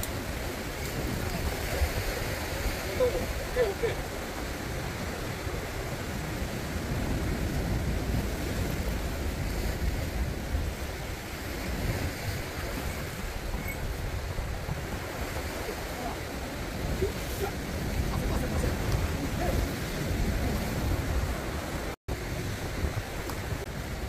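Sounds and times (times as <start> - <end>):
sea waves breaking on rocks: 0.0 - 24.0
wind rumbling on microphone: 0.0 - 24.0.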